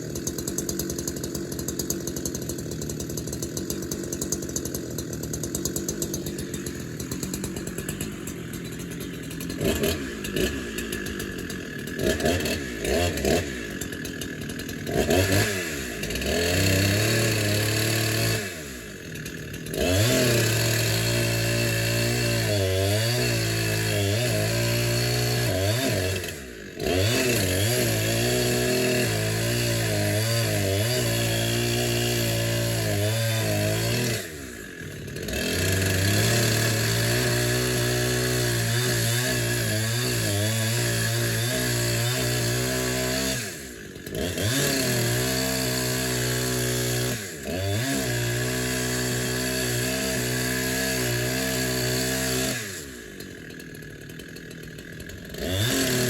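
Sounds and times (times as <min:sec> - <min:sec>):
chainsaw idling and cutting wood: 0:00.0 - 0:56.0.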